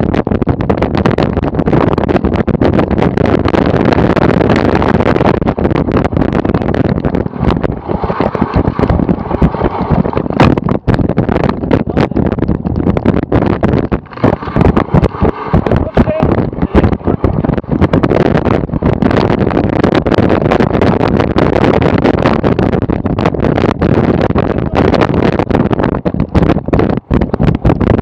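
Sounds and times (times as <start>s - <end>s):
bike rattling over bumpy ground: 0.0s - 28.0s
wind buffeting microphone: 0.0s - 28.0s.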